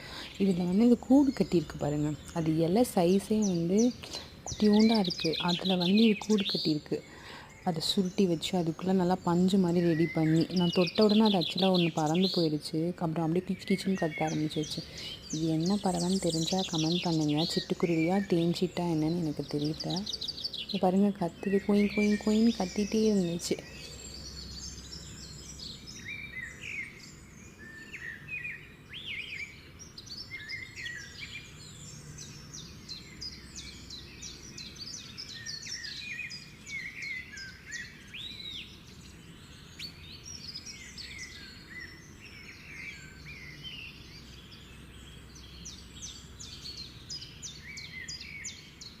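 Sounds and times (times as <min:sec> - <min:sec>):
small bird chirping: 0:00.0 - 0:49.0.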